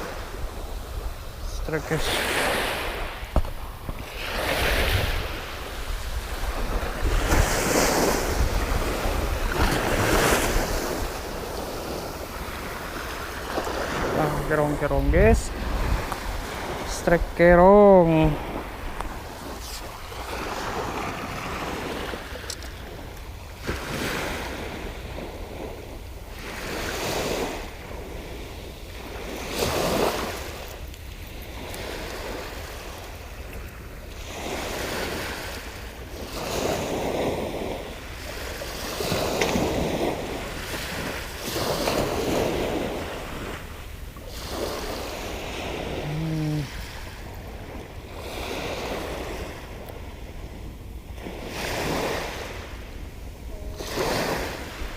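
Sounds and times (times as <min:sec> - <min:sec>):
sea waves washing in: 0:00.0 - 0:54.9
wind rumble on microphone: 0:00.0 - 0:54.9.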